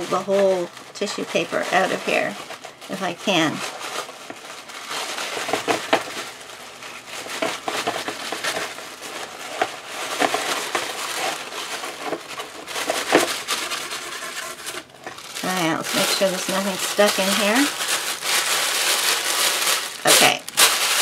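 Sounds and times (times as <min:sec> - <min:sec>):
tissue paper crinkling: 0:00.0 - 0:21.0.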